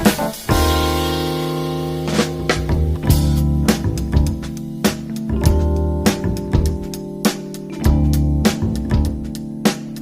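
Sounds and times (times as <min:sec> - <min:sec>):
drum hits: 0:00.0 - 0:09.8
held music chord: 0:00.2 - 0:10.0.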